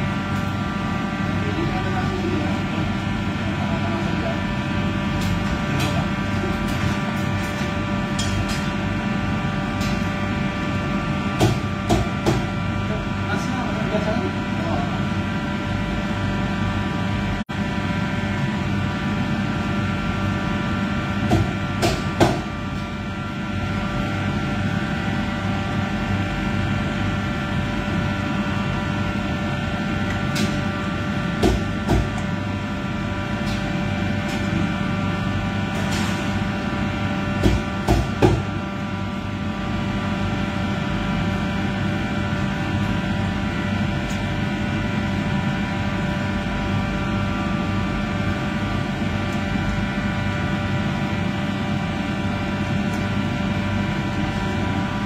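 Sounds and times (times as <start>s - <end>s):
kitchen ventilation humming: 0.0s - 55.0s.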